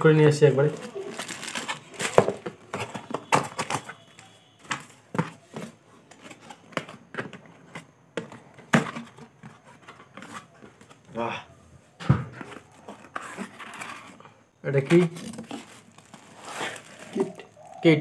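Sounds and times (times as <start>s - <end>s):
cardboard and plastic packaging rustling: 0.1s - 11.3s, 11.9s - 17.8s.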